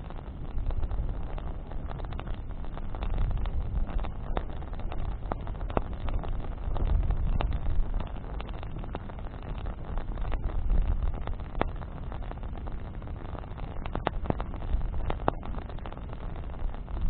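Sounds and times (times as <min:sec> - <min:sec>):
bonfire crackling: 0:00.0 - 0:17.0
low steady rumble: 0:00.0 - 0:17.0
sharp fire pops: 0:00.0 - 0:17.0.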